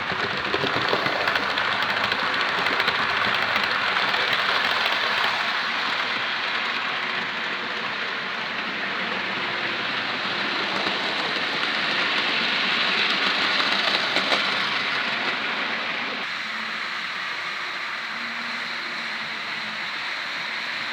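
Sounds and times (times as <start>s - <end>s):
model train motor whirring: 0.0s - 20.9s
wheels on rails: 0.0s - 20.9s.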